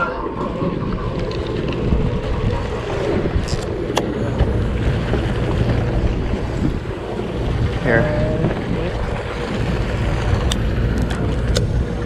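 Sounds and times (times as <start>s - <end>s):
boat engine rumble: 0.0s - 12.0s
sea: 0.0s - 12.0s
wind buffeting microphone: 0.0s - 12.0s.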